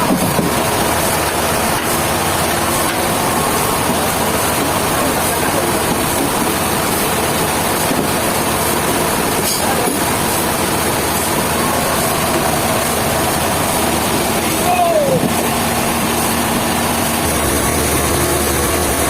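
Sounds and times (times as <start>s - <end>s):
heavy engine running: 0.0s - 19.0s.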